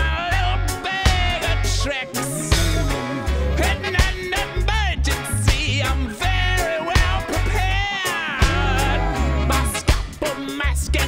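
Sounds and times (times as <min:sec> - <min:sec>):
reggae rock song: 0:00.0 - 0:11.0.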